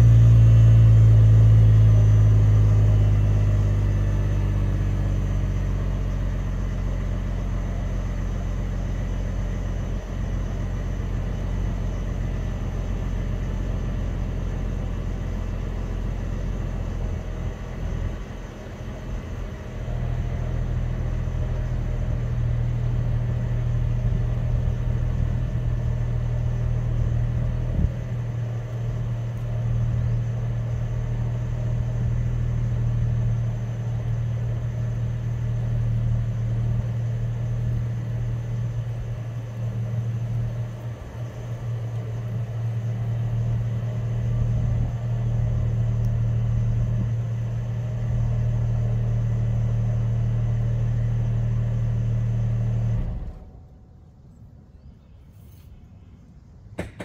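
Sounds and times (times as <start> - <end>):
car engine droning: 0.0 - 57.0.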